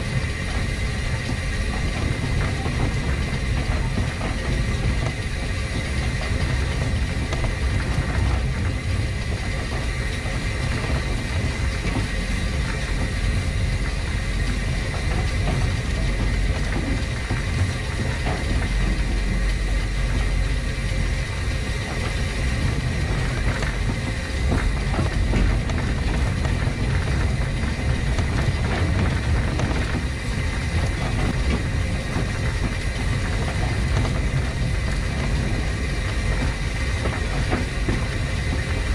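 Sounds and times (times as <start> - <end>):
steam locomotive running on rails: 0.0 - 38.9.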